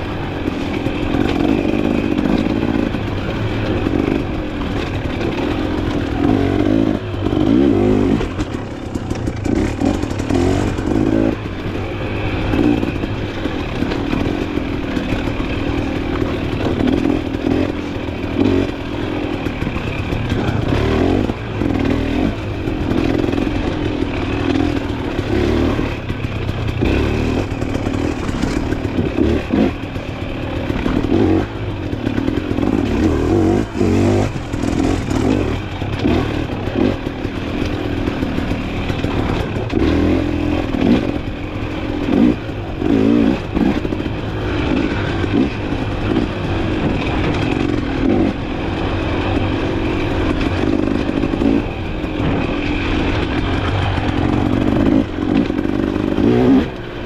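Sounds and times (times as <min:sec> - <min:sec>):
bike knocks and rattles: 0:00.0 - 0:56.8
dirt bike engine revving: 0:00.0 - 0:57.0.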